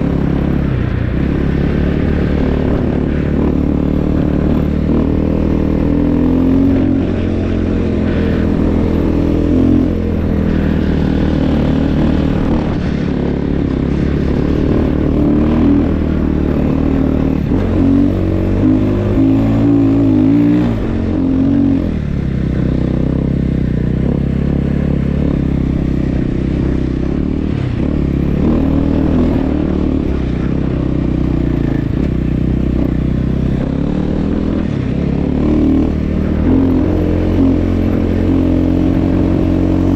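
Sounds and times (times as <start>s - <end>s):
snow bike engine revving: 0.0s - 39.9s.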